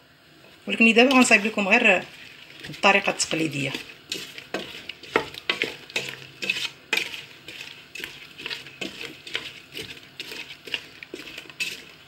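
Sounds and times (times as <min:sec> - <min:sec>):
wooden spoon scraping metal pot: 0:00.9 - 0:12.0.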